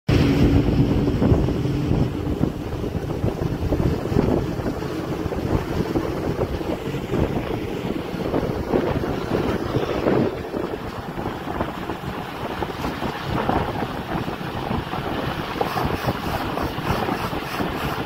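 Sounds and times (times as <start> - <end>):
engine and tyre noise: 0.1 - 18.0
passing traffic: 0.1 - 18.0
wind buffeting microphone: 0.1 - 18.0.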